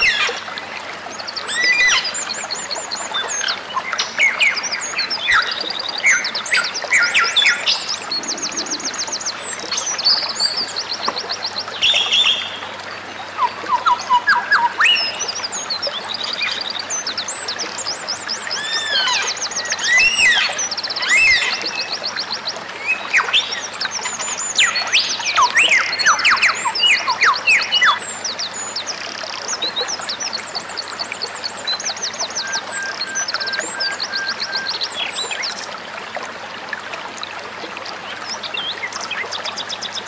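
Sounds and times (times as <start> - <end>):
songbirds singing: 0.0 - 36.2, 37.9 - 40.0.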